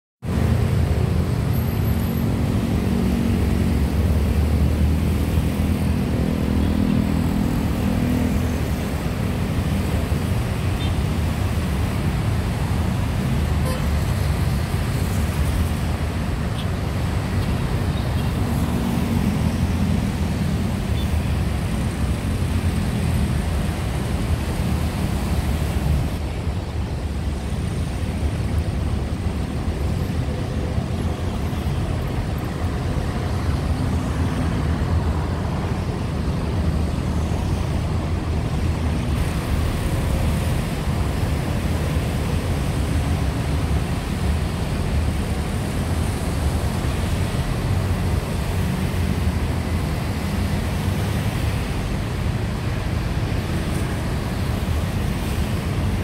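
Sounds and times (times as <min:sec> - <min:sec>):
dense city traffic: 0:00.2 - 0:56.0.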